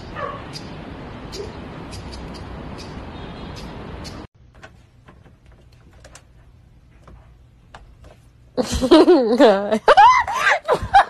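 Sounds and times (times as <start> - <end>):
outdoor street noise: 0.0 - 11.0.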